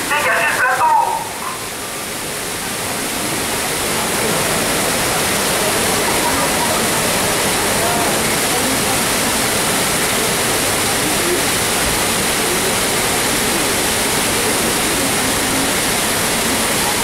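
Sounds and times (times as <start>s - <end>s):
water rushing down rocks: 0.0s - 17.0s.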